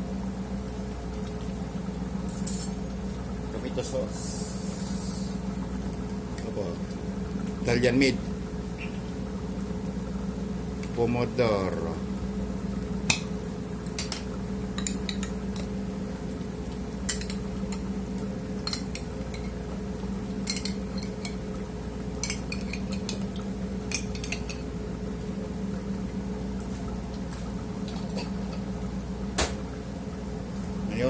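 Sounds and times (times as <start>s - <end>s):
low machinery hum: 0.0s - 31.0s.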